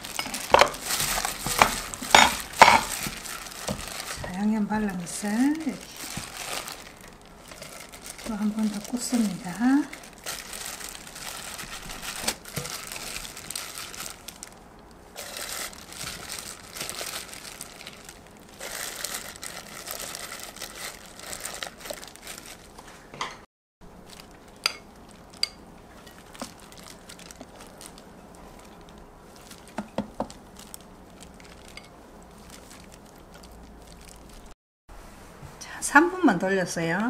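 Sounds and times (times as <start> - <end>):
plastic glove crinkling: 0.0 - 23.1, 23.8 - 34.6.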